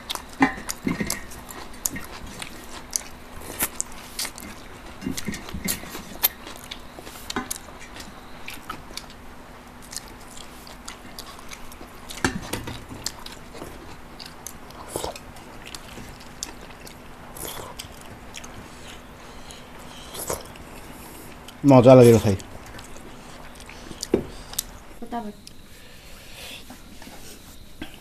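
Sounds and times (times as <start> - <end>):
people chewing with wet lip smacks: 0.0 - 25.6.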